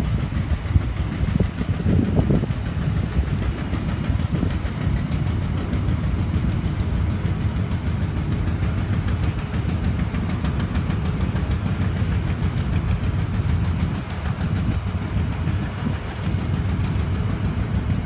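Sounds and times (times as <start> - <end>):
diesel engines rumbling: 0.0 - 18.0.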